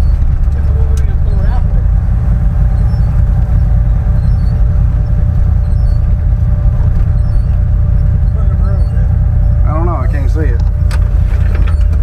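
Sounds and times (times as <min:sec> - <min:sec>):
engine and road noise in cabin: 0:00.0 - 0:12.0
faint steady hum: 0:00.0 - 0:12.0.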